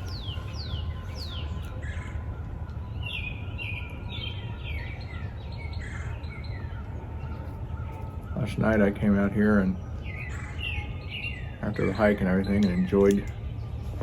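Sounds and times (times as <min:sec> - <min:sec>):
songbirds singing: 0:00.0 - 0:14.0
steady low rumble: 0:00.0 - 0:14.0.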